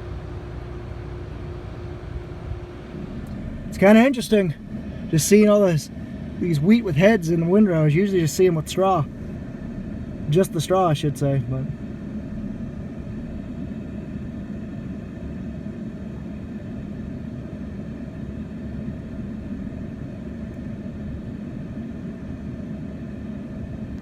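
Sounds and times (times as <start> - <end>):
combine harvester engine rumble: 0.0 - 24.0.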